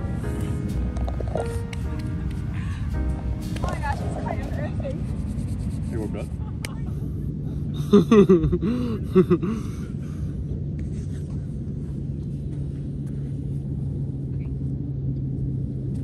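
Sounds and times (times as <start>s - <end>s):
car interior rumble: 0.0s - 16.0s
constant hum: 0.0s - 16.0s.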